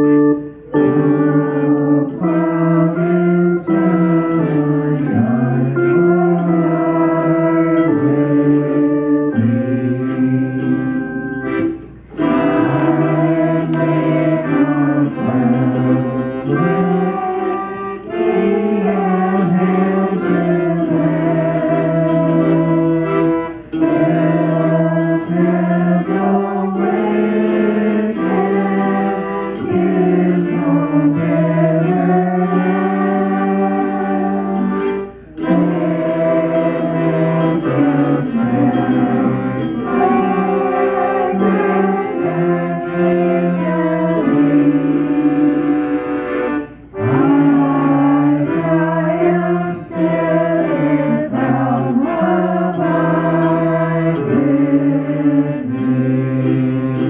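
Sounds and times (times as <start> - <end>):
acoustic guitar: 0.0 - 57.0
group singing a hymn: 0.0 - 57.0
keyboard: 0.0 - 57.0.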